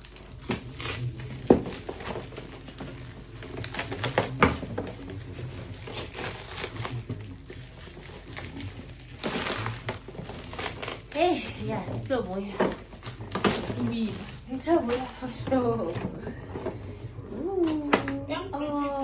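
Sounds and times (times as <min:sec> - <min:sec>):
plastic wrapping crinkling: 0:00.0 - 0:16.7.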